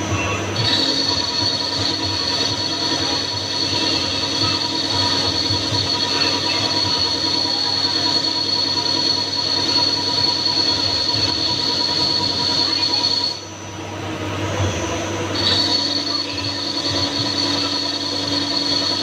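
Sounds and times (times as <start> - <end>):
high-pitched whine: 0.0 - 19.0
lathe machine noise: 0.0 - 19.0.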